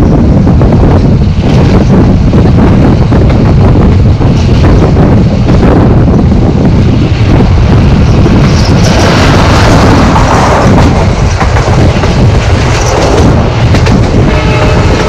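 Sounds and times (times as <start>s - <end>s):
train rumbling on rails: 0.0s - 15.0s
wind buffeting microphone: 0.0s - 15.0s.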